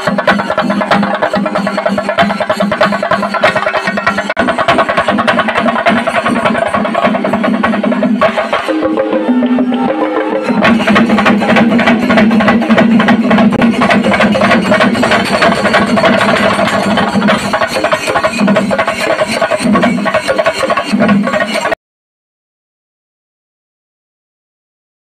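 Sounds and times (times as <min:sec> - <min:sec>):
fast drumming: 0:00.0 - 0:21.8.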